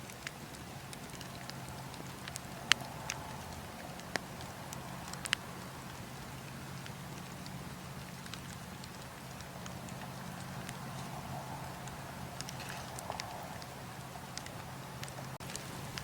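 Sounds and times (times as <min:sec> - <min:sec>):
campfire hissing and crackling: 0:00.0 - 0:16.0.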